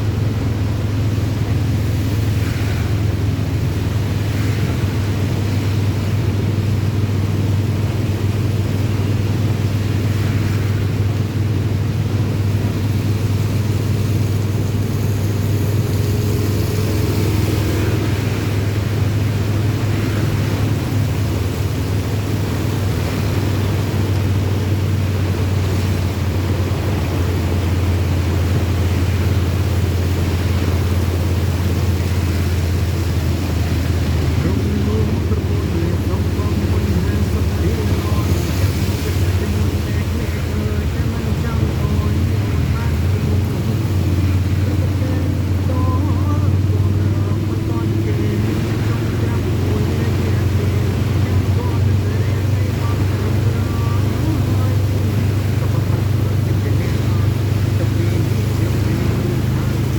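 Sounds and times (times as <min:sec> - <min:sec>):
rain and wet tyres hissing: 0:00.0 - 0:59.9
vehicle low rumble: 0:00.0 - 0:59.9.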